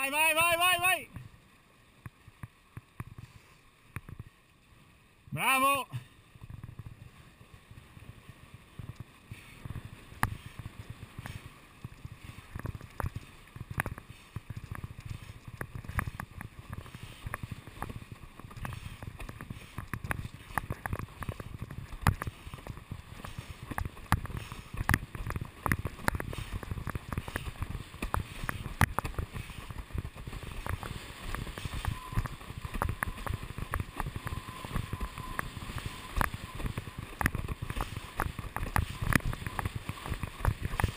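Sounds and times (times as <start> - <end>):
board hull slapping water: 0.0 - 40.9
rumble of wind and water: 0.0 - 40.9.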